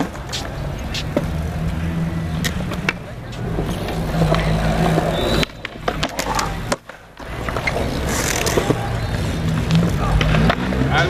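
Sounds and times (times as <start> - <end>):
hard wheels rolling on concrete: 0.0 - 11.0.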